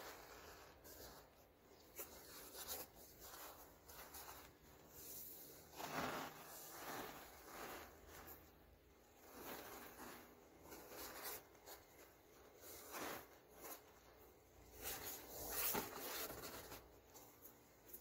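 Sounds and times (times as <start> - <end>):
hand rubbing through powder: 0.0 - 18.0.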